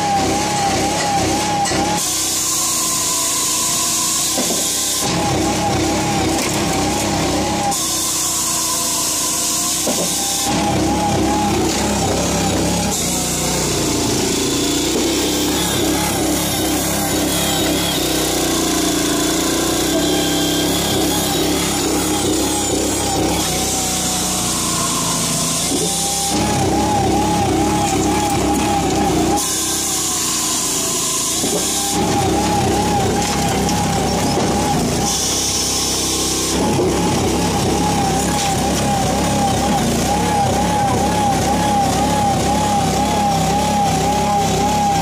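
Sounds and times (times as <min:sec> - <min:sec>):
saw cutting through logs: 0:00.0 - 0:45.0
combustion engine running: 0:04.4 - 0:08.8, 0:09.8 - 0:45.0.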